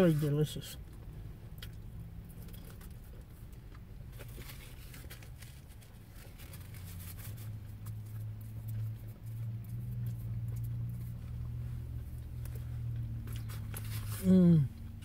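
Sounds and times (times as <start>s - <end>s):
steady low hum: 0.0s - 15.0s
person chewing food: 0.9s - 15.0s.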